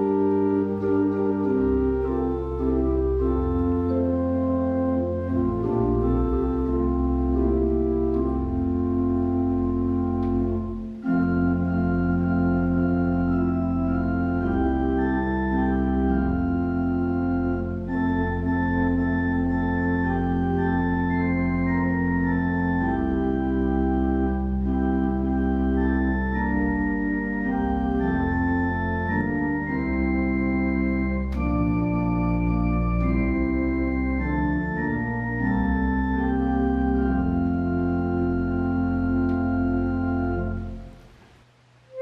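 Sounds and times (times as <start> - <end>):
church organ chords: 0.0 - 41.2.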